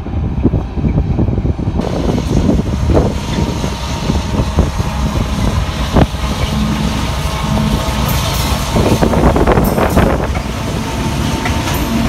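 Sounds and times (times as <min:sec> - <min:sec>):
diesel locomotive engine: 0:00.0 - 0:12.0
wind buffeting microphone: 0:00.0 - 0:12.0.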